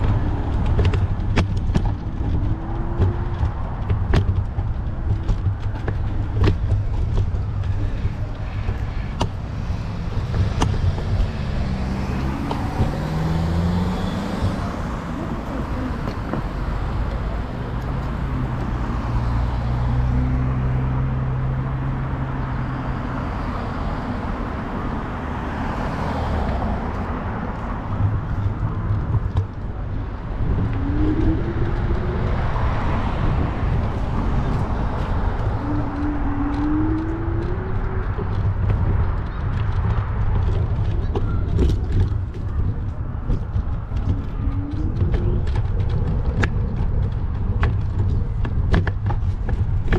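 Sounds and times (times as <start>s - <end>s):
cars passing: 0.0s - 49.9s
steady low traffic rumble: 0.0s - 49.9s.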